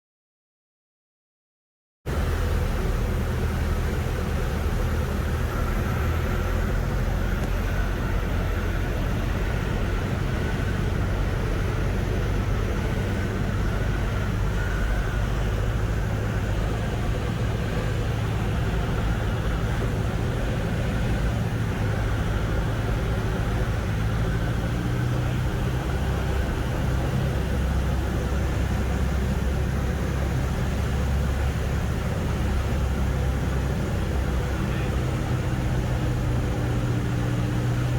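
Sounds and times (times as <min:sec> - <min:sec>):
aircraft piston engine droning: 0:02.1 - 0:37.9.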